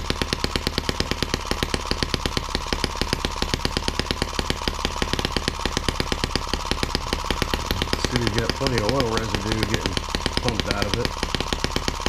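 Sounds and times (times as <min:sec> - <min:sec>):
model engine firing pops: 0:00.0 - 0:12.0.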